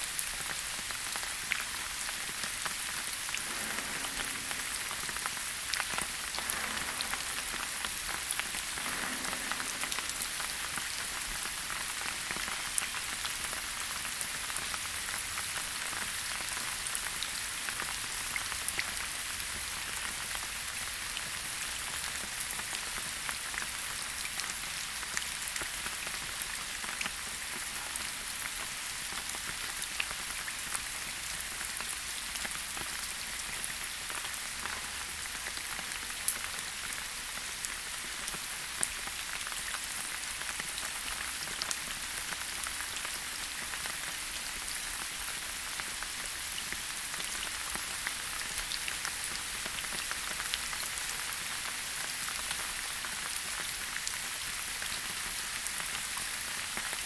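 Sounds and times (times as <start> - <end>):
steady rain in a forest: 0.0 - 57.0.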